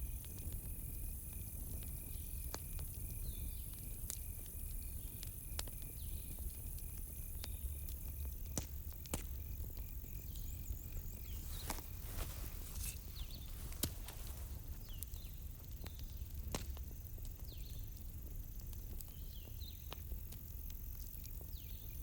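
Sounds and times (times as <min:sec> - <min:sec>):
campfire crackling and popping: 0:00.0 - 0:22.0
cricket chirping: 0:00.0 - 0:22.0.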